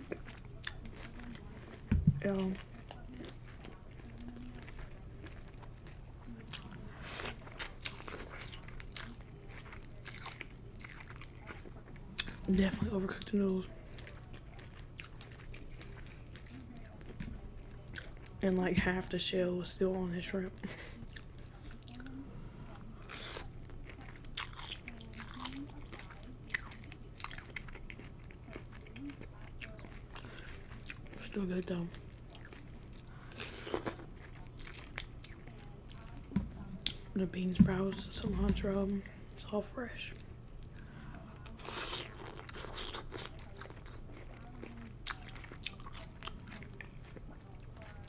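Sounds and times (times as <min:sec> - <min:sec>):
chewing food: 0:00.0 - 0:48.0.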